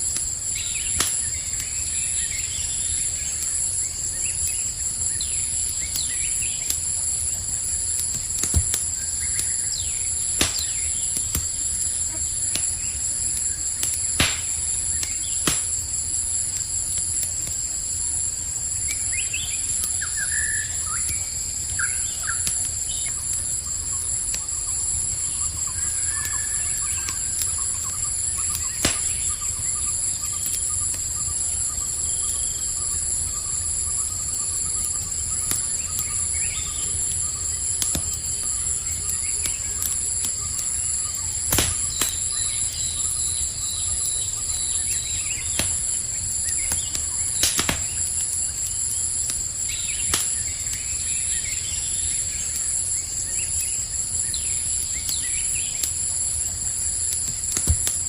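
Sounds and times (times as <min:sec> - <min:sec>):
campfire crackling and popping: 0:00.0 - 0:58.0
crickets chorus: 0:00.0 - 0:58.0
faint chirps: 0:00.0 - 0:58.0
low rumble of fire: 0:00.0 - 0:58.0.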